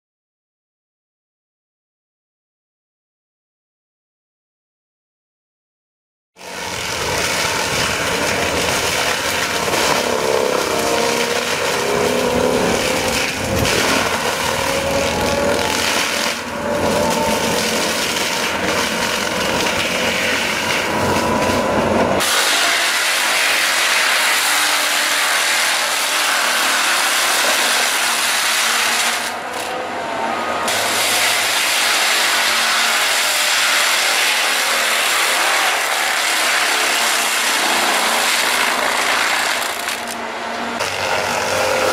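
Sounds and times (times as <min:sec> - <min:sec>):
heavy machinery grinding wood: 0:06.4 - 0:41.9.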